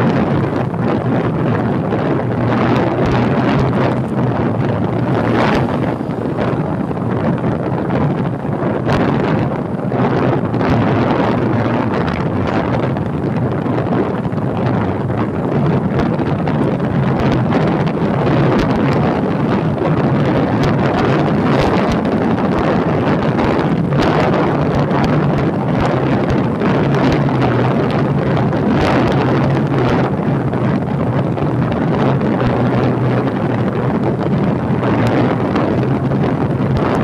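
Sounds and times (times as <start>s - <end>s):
motorcycle engine running: 0.0s - 37.0s
wind rushing over microphone: 0.0s - 37.0s.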